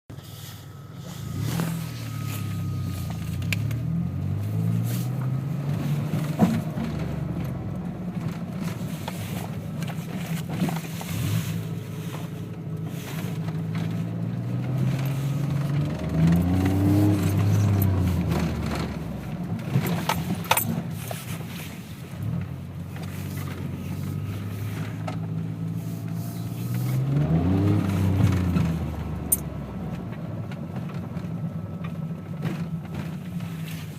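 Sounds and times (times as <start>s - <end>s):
car engine revving: 1.0s - 20.9s, 22.3s - 31.8s.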